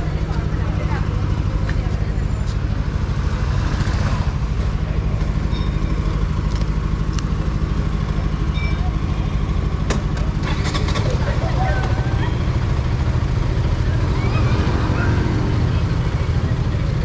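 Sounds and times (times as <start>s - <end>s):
motorcycle engine idling: 0.0s - 14.4s, 15.6s - 17.0s.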